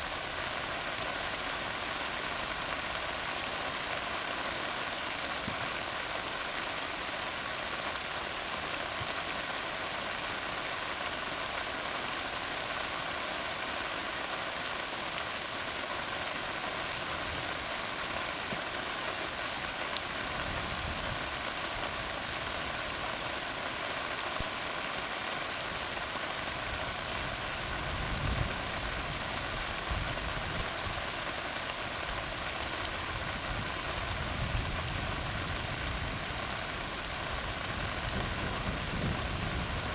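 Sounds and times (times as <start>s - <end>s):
rain on a road: 0.0s - 39.9s.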